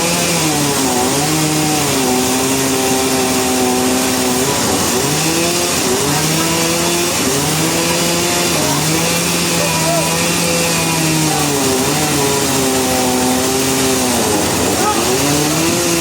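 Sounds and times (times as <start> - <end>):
hiss of saw cutting: 0.0 - 16.0
sawmill engine running: 0.0 - 16.0.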